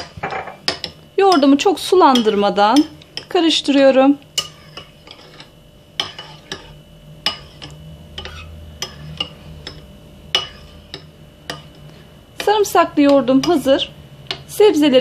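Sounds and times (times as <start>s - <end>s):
spoon stirring yogurt: 0.0s - 3.4s, 4.3s - 14.5s.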